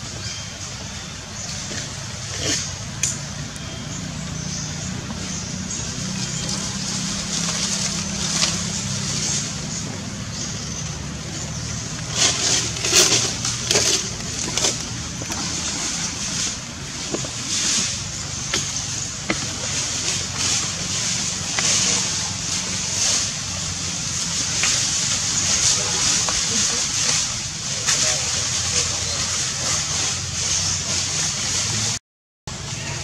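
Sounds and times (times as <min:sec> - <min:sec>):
rustling crackles: 0:00.0 - 0:32.0
low hum of distant engine: 0:00.0 - 0:33.0.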